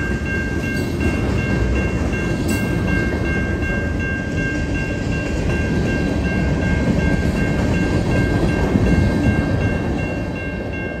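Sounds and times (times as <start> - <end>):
freight train rumbling past: 0.0 - 11.0
level-crossing bell ringing: 0.0 - 11.0.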